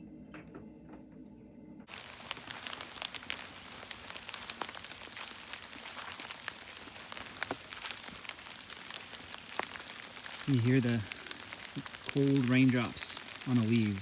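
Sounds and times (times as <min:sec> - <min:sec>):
rain falling on leaves: 0:01.9 - 0:14.0.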